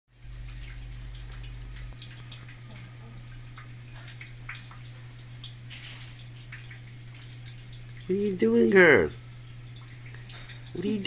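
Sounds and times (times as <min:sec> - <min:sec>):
tap water stream splashing: 0:00.1 - 0:11.0.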